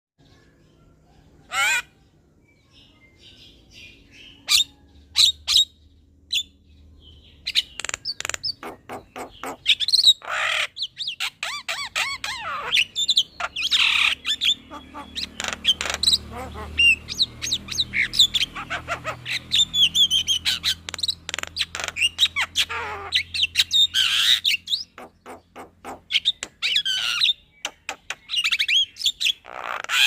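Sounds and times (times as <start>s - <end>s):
myna bird singing: 0.2s - 30.0s.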